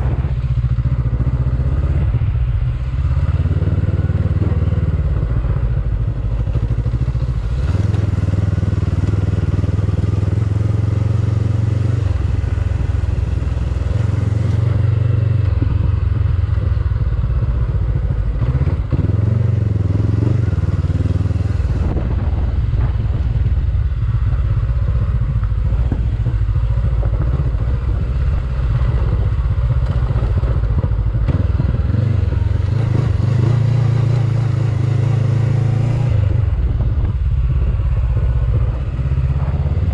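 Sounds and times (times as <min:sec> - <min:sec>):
motorcycle engine climbing hill: 0:00.0 - 0:39.9.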